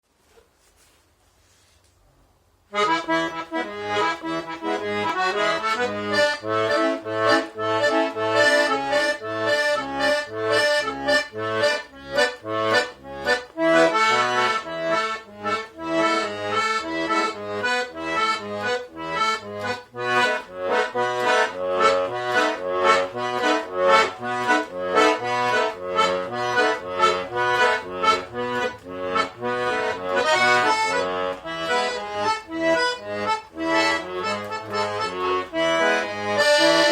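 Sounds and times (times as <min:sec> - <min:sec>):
accordion playing a tune: 0:02.7 - 0:36.9.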